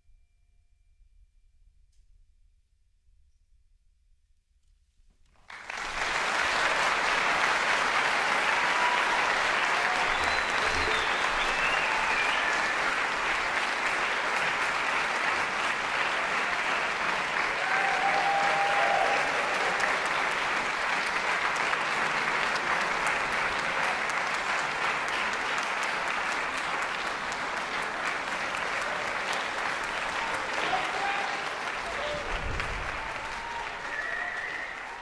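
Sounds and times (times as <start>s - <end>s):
audience applauding: 5.4s - 35.0s.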